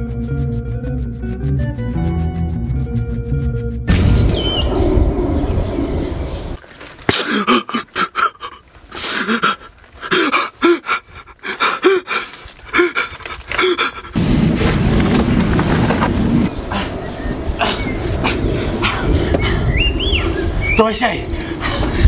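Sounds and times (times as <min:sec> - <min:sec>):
outdoor background noise: 0:03.9 - 0:22.0.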